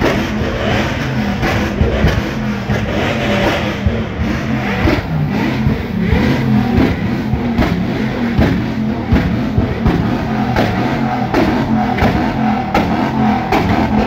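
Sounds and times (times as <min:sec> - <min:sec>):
car engines running loudly: 0:00.0 - 0:14.0
engine revs: 0:00.0 - 0:14.0.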